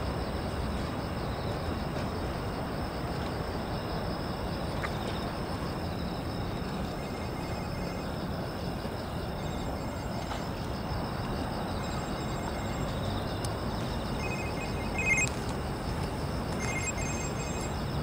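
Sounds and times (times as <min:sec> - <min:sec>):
insects chirping in trills: 0:00.0 - 0:18.0.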